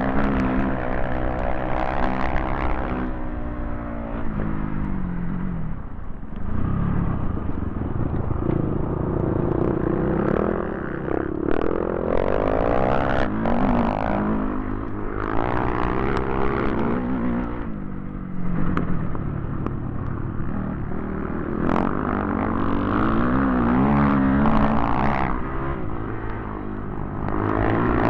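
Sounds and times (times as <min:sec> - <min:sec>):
dirt bike engine revving: 0:00.0 - 0:05.8, 0:06.4 - 0:28.0.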